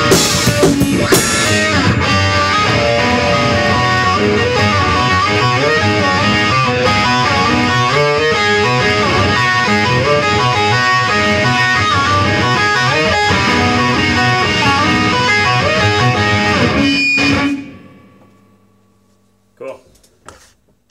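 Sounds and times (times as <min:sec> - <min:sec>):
drum kit playing: 0:00.0 - 0:18.6
fast electric guitar line: 0:00.0 - 0:18.6.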